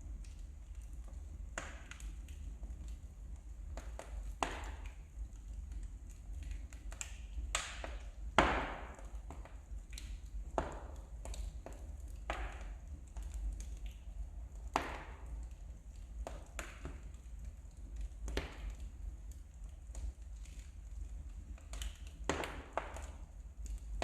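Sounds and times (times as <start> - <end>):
logs crackling and popping: 0.0 - 24.0.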